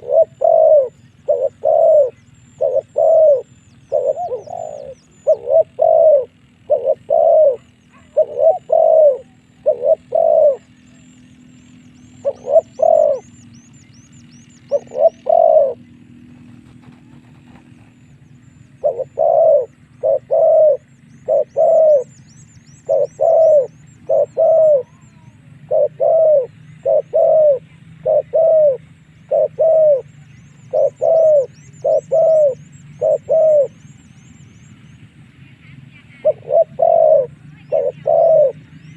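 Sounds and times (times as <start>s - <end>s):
dove cooing: 0.0s - 11.2s, 12.0s - 13.4s, 14.6s - 22.2s, 22.8s - 33.9s, 35.6s - 38.9s
small bird chirping: 0.0s - 38.9s.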